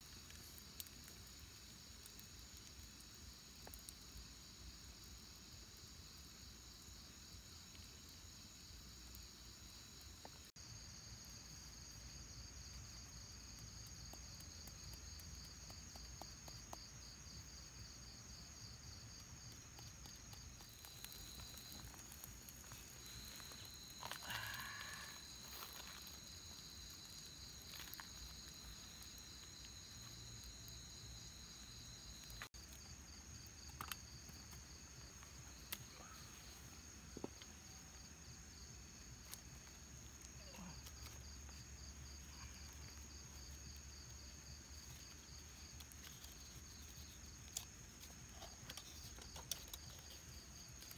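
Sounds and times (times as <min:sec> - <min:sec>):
night insects chirping: 0:00.0 - 0:50.9
wavering insect call: 0:00.0 - 0:50.9.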